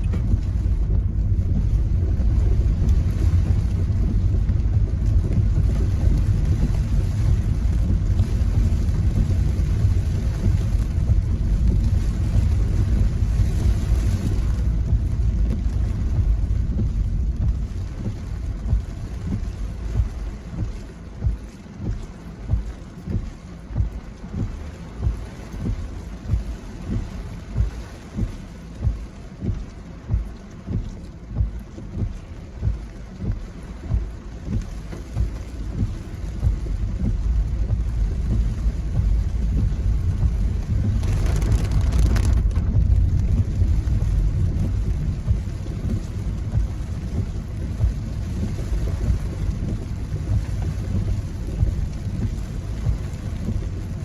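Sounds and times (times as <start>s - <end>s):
wind buffeting microphone: 0.0s - 30.8s, 31.4s - 54.0s
low thuds: 0.0s - 54.0s.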